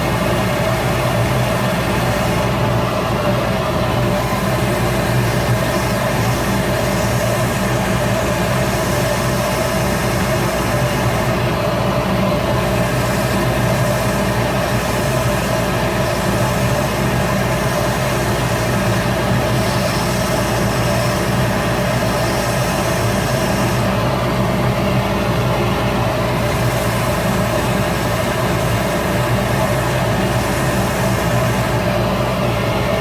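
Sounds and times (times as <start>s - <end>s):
hiss: 0.0s - 2.6s, 4.0s - 11.5s, 12.4s - 24.0s, 26.3s - 32.0s
wood lathe motor humming: 0.0s - 33.0s.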